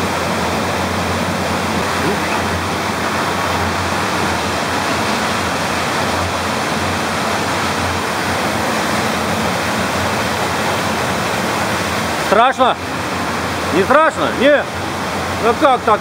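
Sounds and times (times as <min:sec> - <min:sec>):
rush of flowing water: 0:00.0 - 0:16.0.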